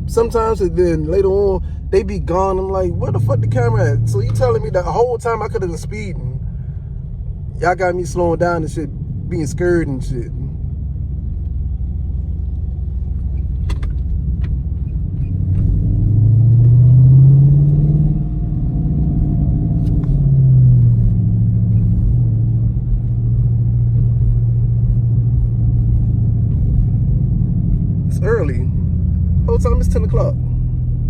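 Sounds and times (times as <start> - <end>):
car engine rumble in cabin: 0.0 - 31.0.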